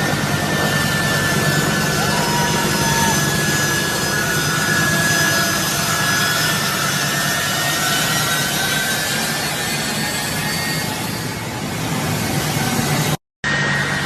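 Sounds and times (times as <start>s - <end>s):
jet engines running with whine: 0.0s - 14.0s.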